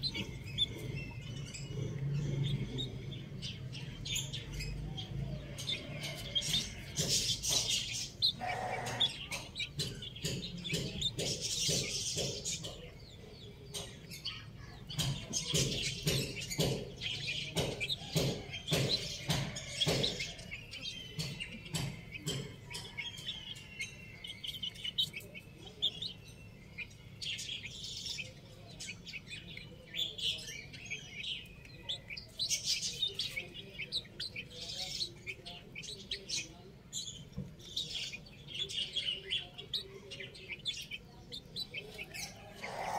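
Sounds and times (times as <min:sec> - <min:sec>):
beaks tapping on concrete: 0:00.0 - 0:42.9
chicks cheeping: 0:00.0 - 0:42.9.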